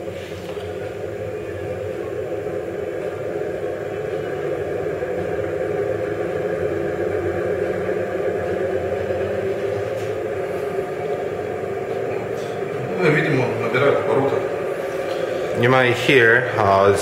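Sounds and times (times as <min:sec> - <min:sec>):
generator whirring hum: 0:00.0 - 0:17.0.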